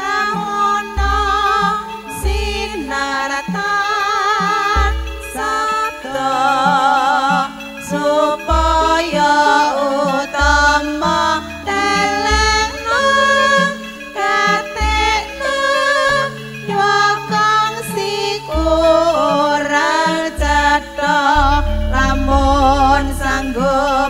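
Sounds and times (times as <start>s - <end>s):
band playing: 4.7s - 24.0s.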